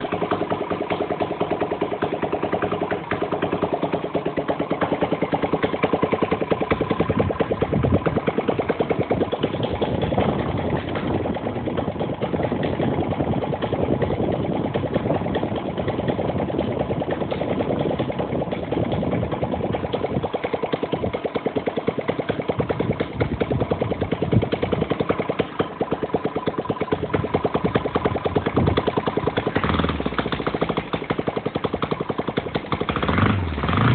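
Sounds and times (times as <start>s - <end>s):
model aircraft engine running: 0.0s - 33.9s.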